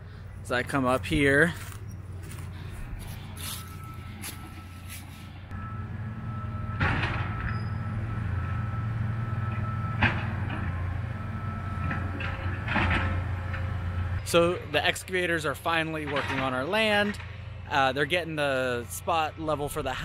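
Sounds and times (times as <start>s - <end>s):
excavator engine rumble: 0.0s - 20.0s.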